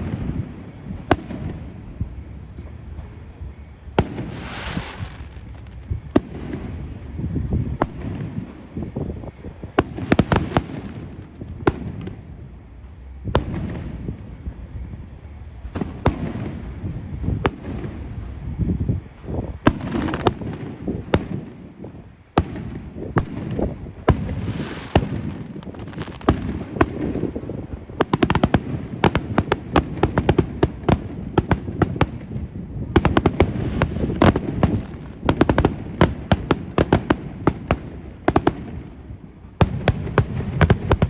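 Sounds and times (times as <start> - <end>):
fireworks bursting with sharp bangs: 0.0 - 41.0
low rumble of launches: 0.0 - 41.0.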